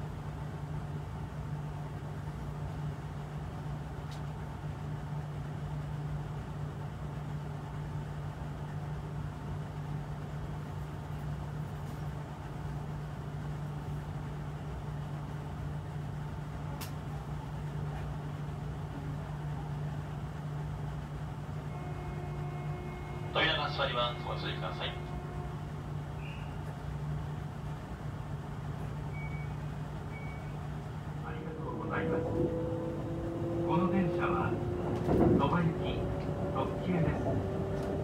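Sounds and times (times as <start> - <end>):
train cabin running noise: 0.0 - 38.0.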